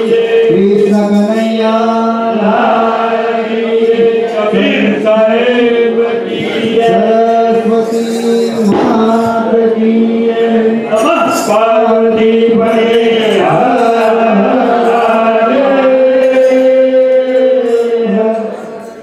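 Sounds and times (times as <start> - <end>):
men's chorus singing: 0.0 - 19.0.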